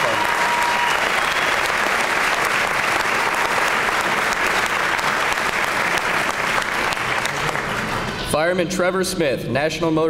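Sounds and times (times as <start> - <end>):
audience applauding in a hall: 0.0 - 8.4.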